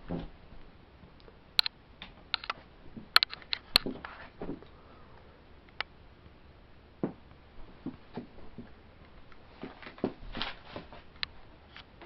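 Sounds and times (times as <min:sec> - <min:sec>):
ceiling fan running: 0:00.0 - 0:12.0
steady low hum: 0:00.0 - 0:12.0.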